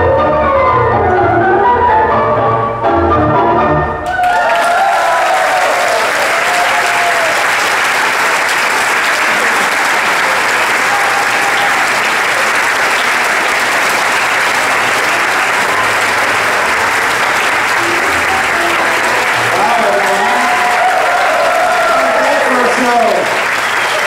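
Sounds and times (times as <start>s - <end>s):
audience applauding: 4.0s - 24.0s.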